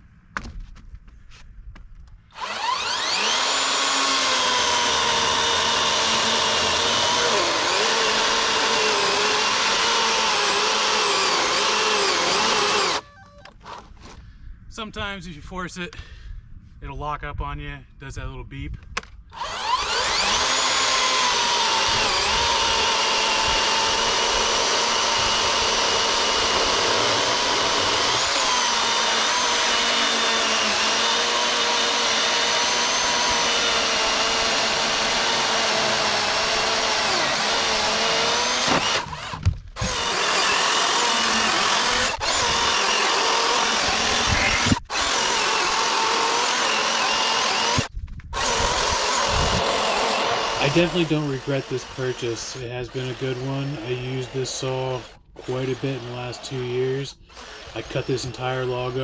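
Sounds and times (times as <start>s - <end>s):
electric chainsaw cutting wood: 2.3s - 13.9s, 19.3s - 59.0s.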